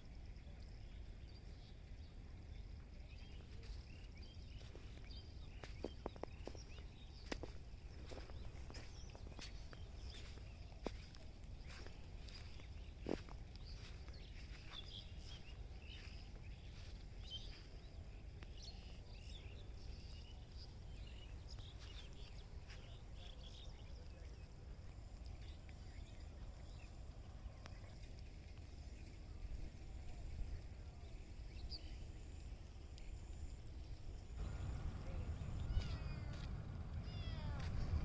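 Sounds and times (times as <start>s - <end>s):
small birds chirping: 0.0s - 38.0s
steady low rumble: 0.6s - 24.0s, 28.6s - 38.0s.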